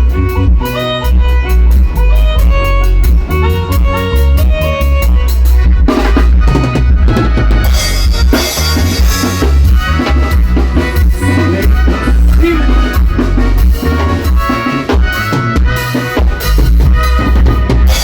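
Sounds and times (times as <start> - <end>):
band playing latin dance music: 0.0 - 18.0
drum kit beat: 0.0 - 18.0
heavy bass line: 0.0 - 18.0.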